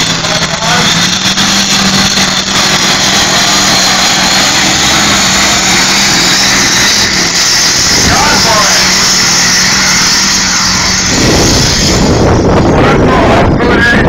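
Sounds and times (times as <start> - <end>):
tractor engine at full load: 0.0 - 14.0.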